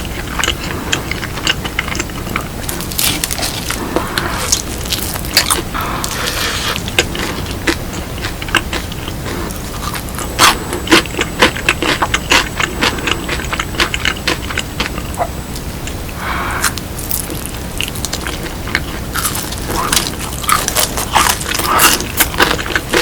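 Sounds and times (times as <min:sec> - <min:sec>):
crunching and chewing fried chicken: 0:00.0 - 0:23.0.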